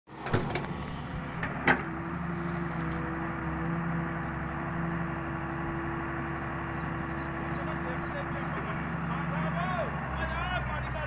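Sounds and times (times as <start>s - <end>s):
excavator engine and hydraulics: 0.1s - 11.0s.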